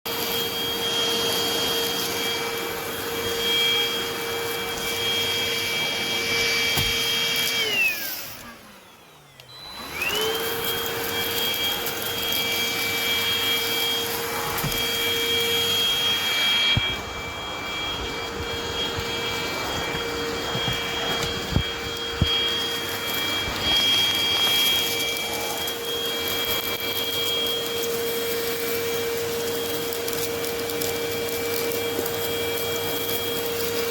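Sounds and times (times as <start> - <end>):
vacuum cleaner whine: 0.1 - 33.9.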